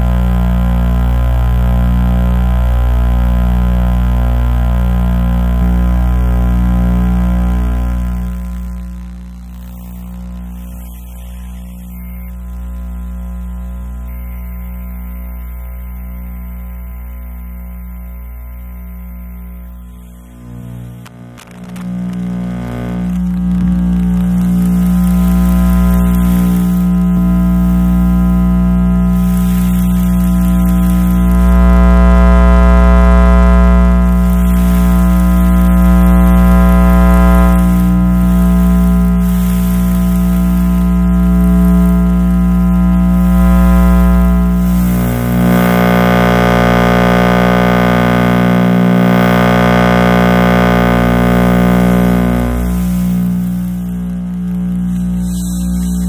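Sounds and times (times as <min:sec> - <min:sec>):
electrical interference buzz: 0:00.0 - 0:56.0.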